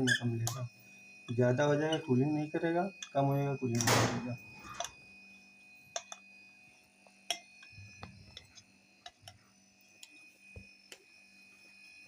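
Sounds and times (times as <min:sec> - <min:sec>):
faint steady hum: 0:00.0 - 0:12.0
thin high whine: 0:00.0 - 0:12.0.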